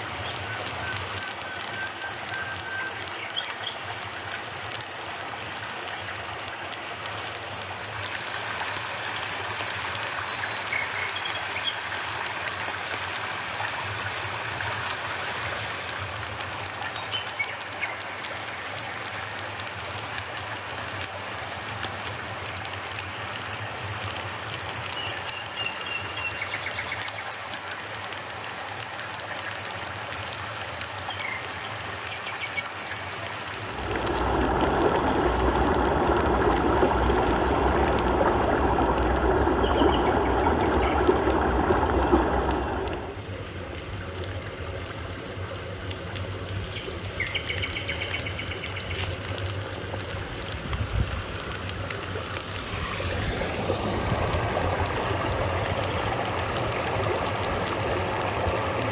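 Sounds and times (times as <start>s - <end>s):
water trickling and running: 0.0s - 58.9s.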